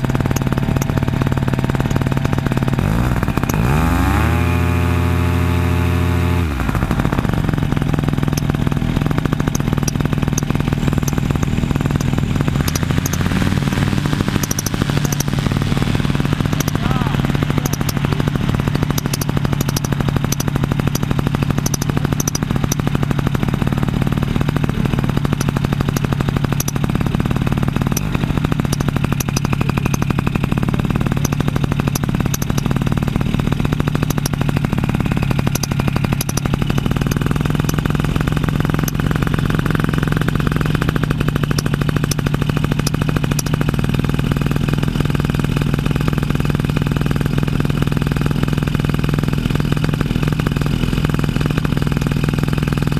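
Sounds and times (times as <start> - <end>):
paramotor engine droning: 0.0 - 52.9.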